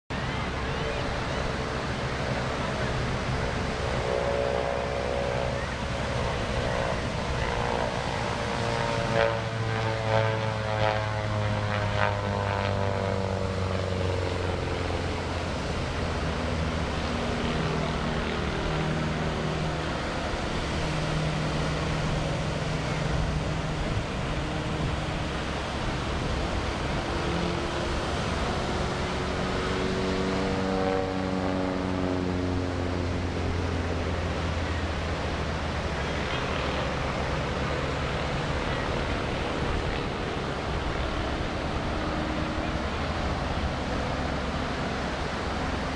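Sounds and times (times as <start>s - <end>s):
propeller plane engine droning: 0.1s - 45.9s.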